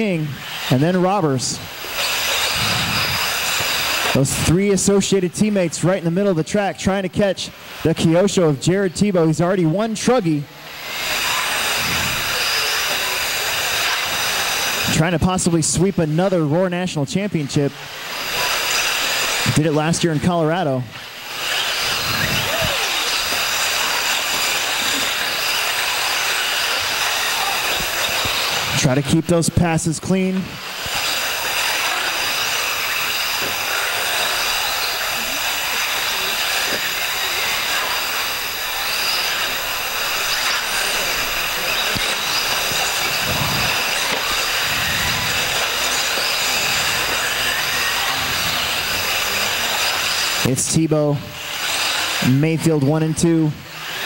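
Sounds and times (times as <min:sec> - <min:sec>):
electric model cars whining: 0:00.0 - 0:06.5, 0:09.7 - 0:54.0.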